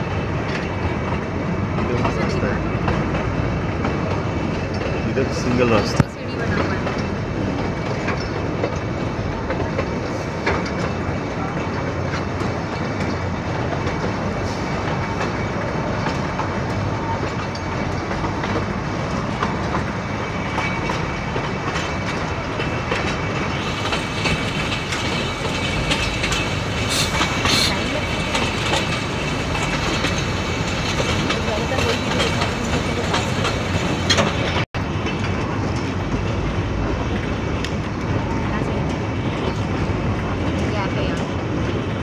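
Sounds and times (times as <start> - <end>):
train carriages running on track: 0.0 - 42.0.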